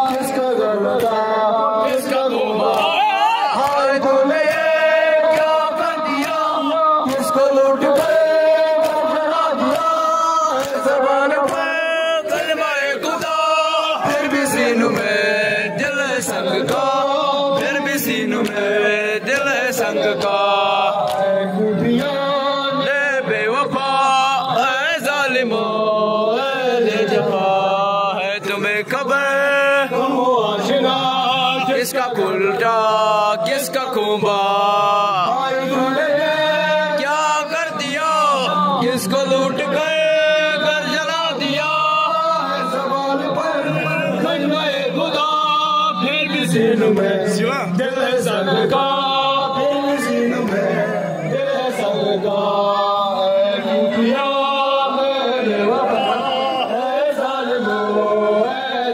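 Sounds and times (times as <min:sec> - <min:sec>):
rhythmic chest-beating slaps: 0:00.0 - 0:49.7, 0:50.4 - 0:52.6
men chanting through microphones: 0:00.0 - 0:58.9.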